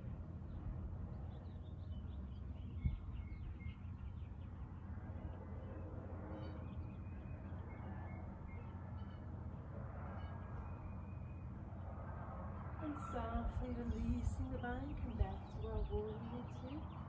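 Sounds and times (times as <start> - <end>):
steady low rumble: 0.0 - 17.0
small birds chirping: 0.4 - 9.4, 10.3 - 17.0.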